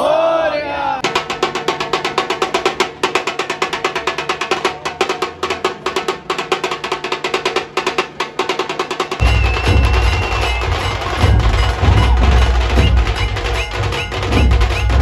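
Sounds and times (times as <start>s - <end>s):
barrel drums beaten rapidly: 1.0s - 15.0s.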